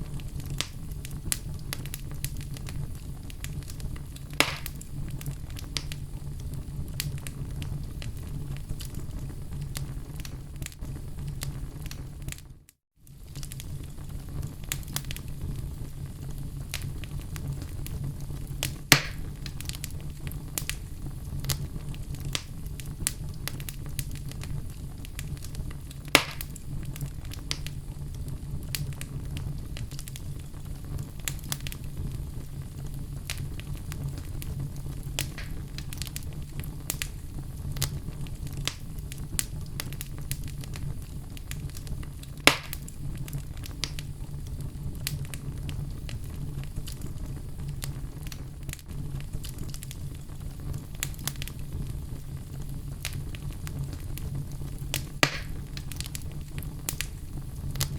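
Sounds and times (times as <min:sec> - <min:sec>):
fire snaps and pops: 0:00.0 - 0:57.9
wood fire crackling: 0:00.0 - 0:57.9.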